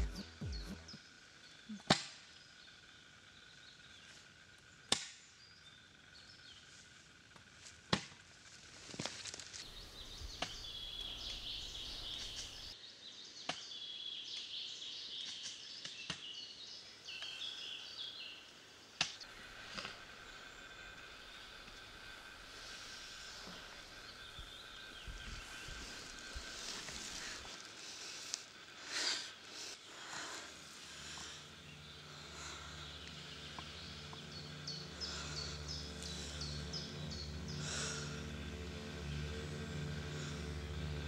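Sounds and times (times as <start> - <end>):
woodland ambience: 0.0 - 41.0.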